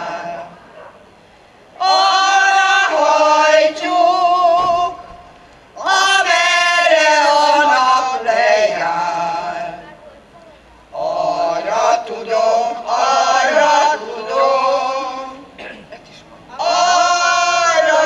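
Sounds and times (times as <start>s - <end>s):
women's choir singing unaccompanied: 0.0s - 1.0s, 1.6s - 18.0s.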